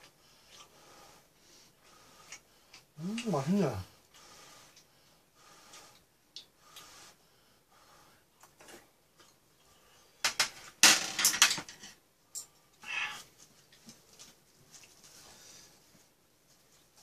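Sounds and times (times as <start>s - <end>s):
soft eating sounds: 0.0s - 10.1s, 12.4s - 17.0s.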